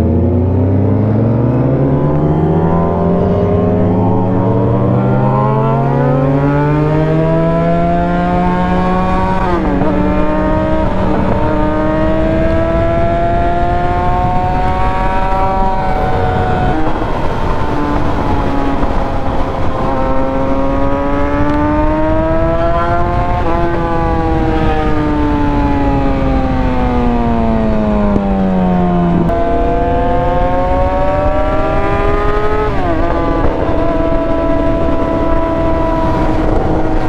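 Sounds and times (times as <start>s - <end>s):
motorcycle engine revving: 0.0s - 37.0s
wind and road rush: 0.0s - 37.0s.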